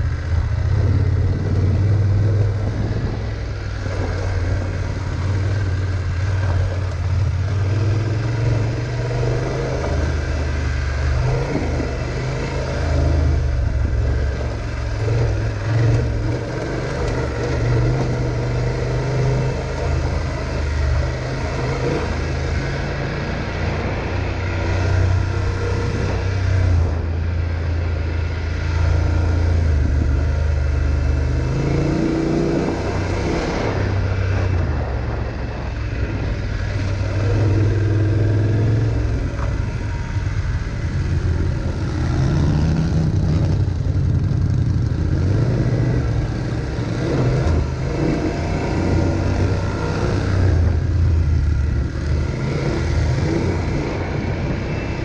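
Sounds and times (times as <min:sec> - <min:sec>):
motorcycle engine running: 0:00.0 - 0:55.0
steady rushing noise: 0:00.0 - 0:55.0.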